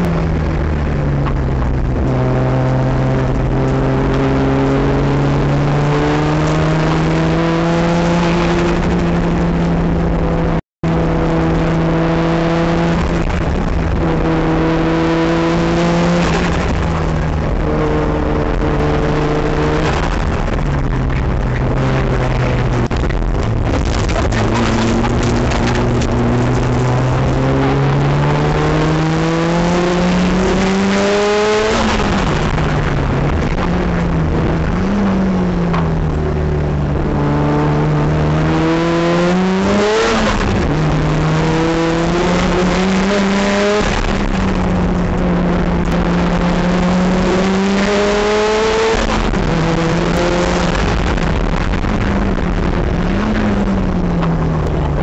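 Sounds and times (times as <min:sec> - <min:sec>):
race car engine at full throttle: 0:00.0 - 0:55.0
wind and road noise: 0:00.0 - 0:55.0.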